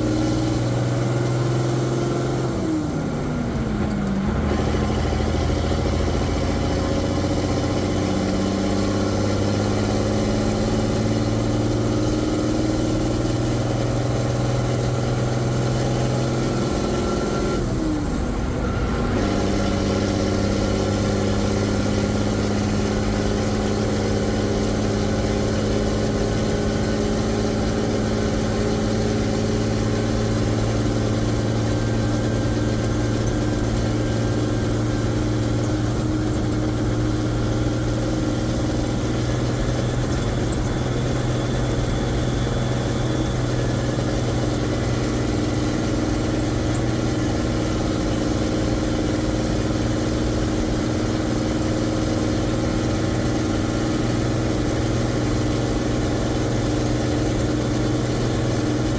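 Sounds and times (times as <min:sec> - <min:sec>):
truck diesel engine running: 0:00.0 - 0:58.9.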